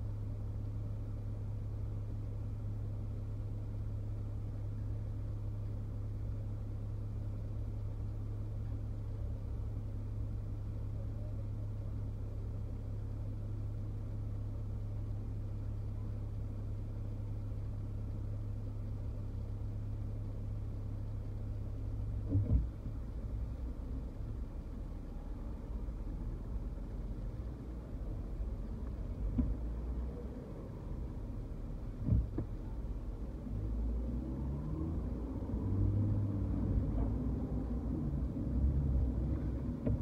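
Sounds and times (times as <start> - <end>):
car engine idling: 0.0 - 34.4, 35.1 - 40.0.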